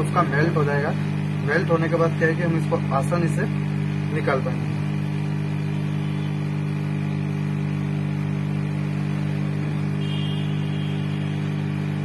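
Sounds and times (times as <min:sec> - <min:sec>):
hot air gun motor hum: 0:00.0 - 0:12.0.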